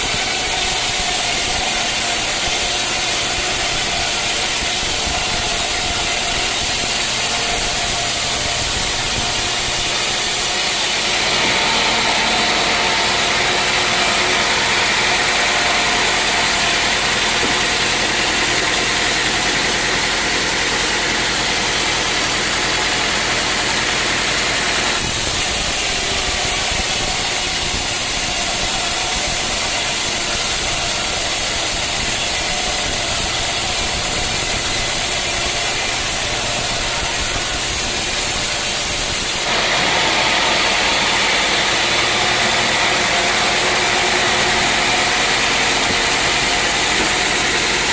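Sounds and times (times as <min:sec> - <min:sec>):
sawmill machinery droning: 0:00.0 - 0:47.9.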